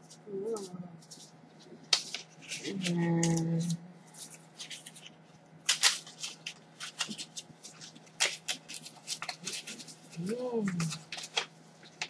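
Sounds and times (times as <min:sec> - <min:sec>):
paper and packaging rustling: 0:00.0 - 0:12.0.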